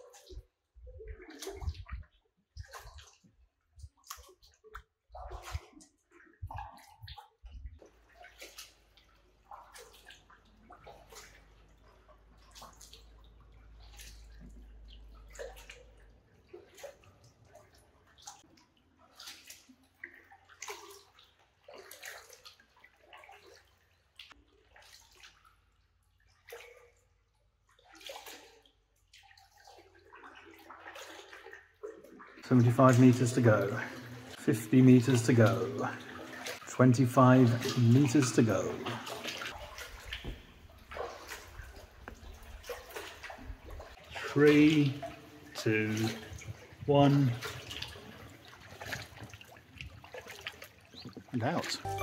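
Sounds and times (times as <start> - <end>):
kayak paddles splashing: 0.0 - 52.0
water dripping: 0.0 - 52.0.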